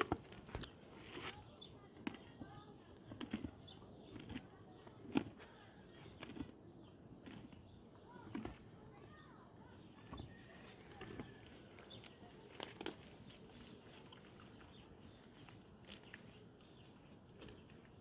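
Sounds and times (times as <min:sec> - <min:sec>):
donkey chewing leaves: 0:00.0 - 0:18.0.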